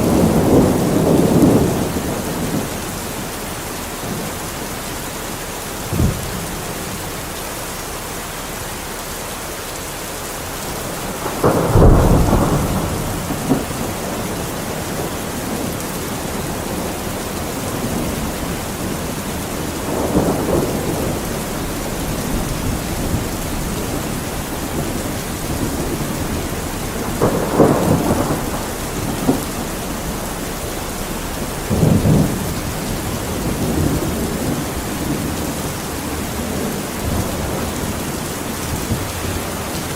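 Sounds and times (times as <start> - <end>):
thunder rumbling: 0.0 - 7.4, 10.0 - 39.9
heavy rain: 0.0 - 39.9.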